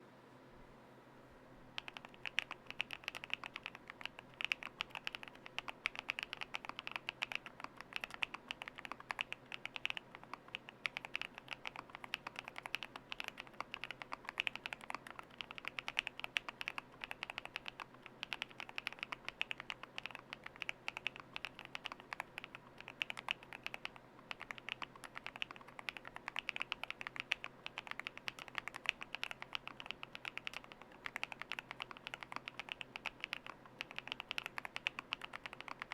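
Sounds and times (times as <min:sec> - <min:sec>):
mechanical keyboard typing: 0:01.8 - 0:35.9.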